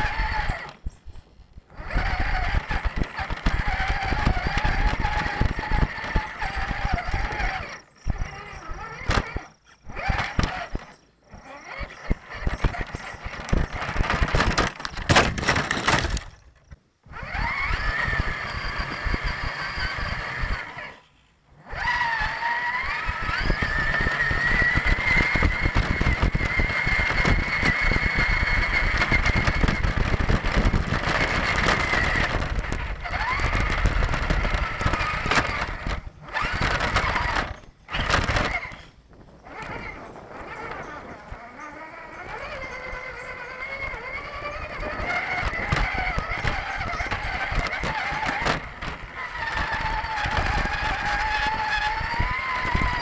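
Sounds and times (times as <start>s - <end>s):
electric motor whining: 0.0s - 53.0s
wheels crunching on rough ground: 0.0s - 53.0s.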